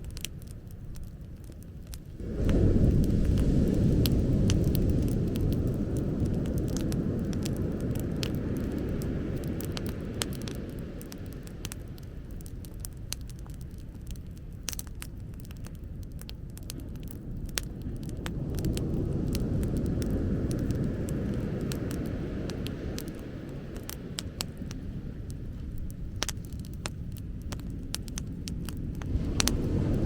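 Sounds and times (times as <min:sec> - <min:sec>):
bonfire crackling and popping: 0:00.0 - 0:30.0
low rumble: 0:00.9 - 0:30.0.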